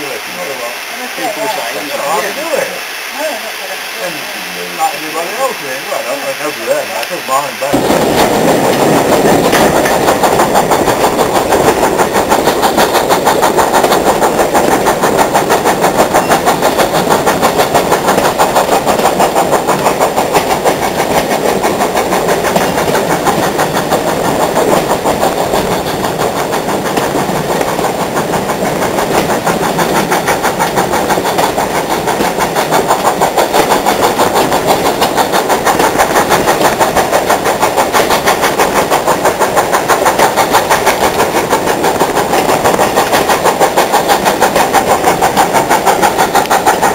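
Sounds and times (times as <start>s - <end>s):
steam locomotive exhaust beats: 0.0s - 46.9s.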